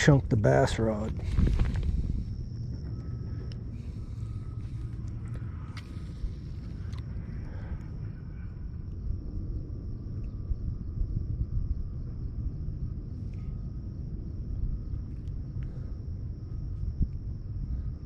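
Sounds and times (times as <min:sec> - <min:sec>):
insect drone: 0:00.0 - 0:18.0
low rumble: 0:00.0 - 0:18.0.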